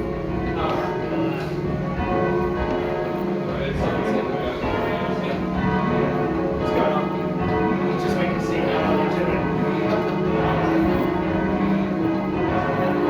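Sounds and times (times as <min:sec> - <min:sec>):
church bells change ringing: 0:00.0 - 0:13.0.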